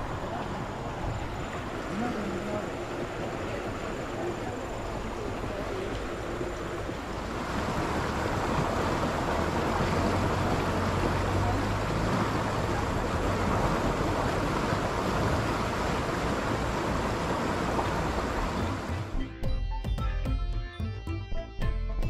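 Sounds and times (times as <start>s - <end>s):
river rushing: 0.0s - 19.2s.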